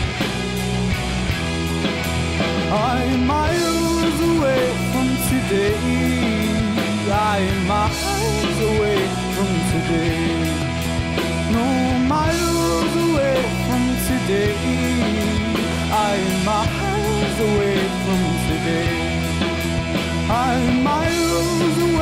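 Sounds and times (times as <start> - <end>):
rock music with guitar: 0.0 - 22.0.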